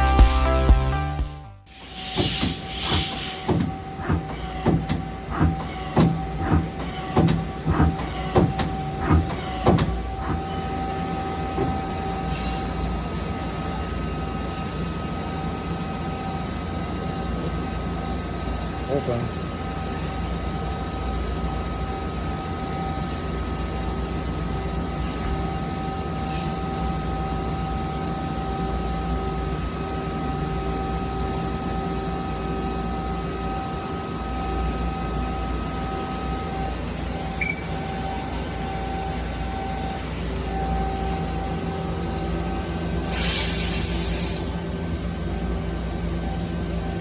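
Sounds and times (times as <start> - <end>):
machine whining tones: 0.0 - 47.0.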